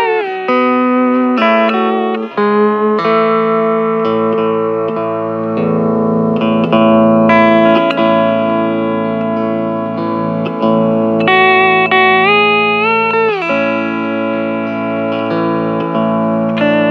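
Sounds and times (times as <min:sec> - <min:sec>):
steel guitar slow melody: 0:00.0 - 0:16.9.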